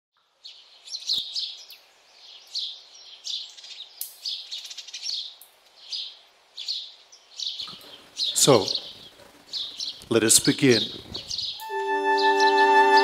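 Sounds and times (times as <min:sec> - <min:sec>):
songbirds chirping and singing: 0:00.2 - 0:13.0.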